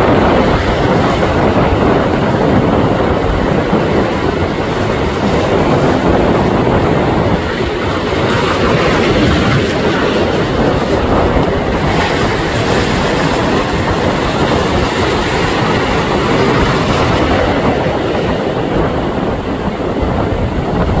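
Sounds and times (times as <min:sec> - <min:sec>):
choppy water: 0:00.0 - 0:21.0
outboard motor running: 0:00.0 - 0:21.0
wind roaring: 0:00.0 - 0:21.0.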